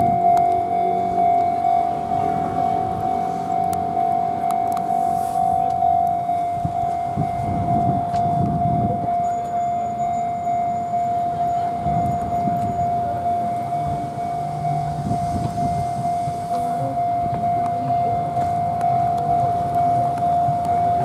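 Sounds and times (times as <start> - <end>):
level crossing alarm bell: 0.0 - 21.0
traffic and crowd rumble: 0.0 - 21.0.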